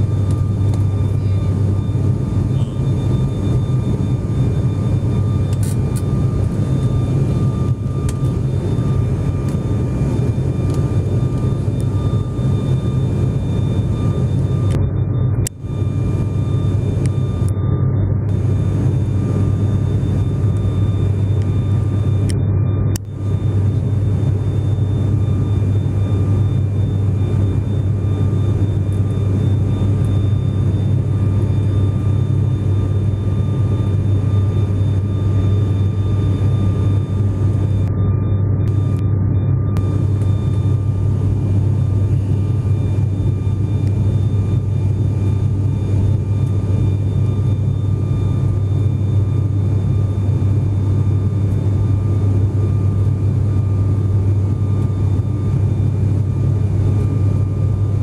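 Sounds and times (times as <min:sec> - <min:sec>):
airplane cabin hum: 0:00.0 - 0:58.0
thin steady whine: 0:00.0 - 0:58.0.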